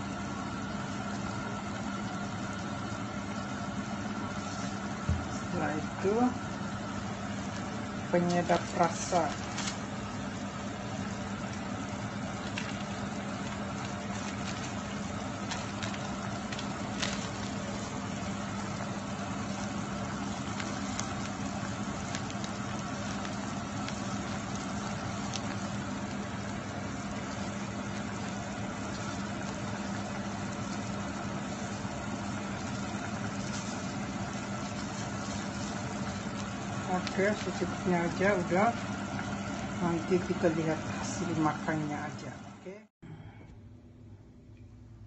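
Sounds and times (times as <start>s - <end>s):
stew simmering in a pot: 0.0s - 42.6s
steady low hum: 0.0s - 45.0s.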